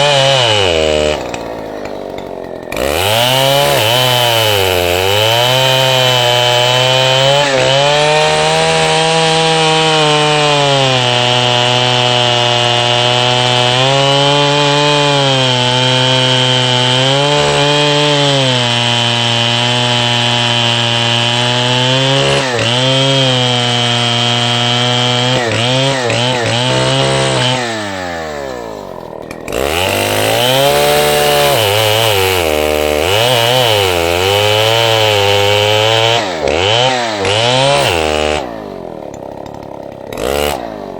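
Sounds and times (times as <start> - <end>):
chainsaw running at high revs: 0.0 - 40.9.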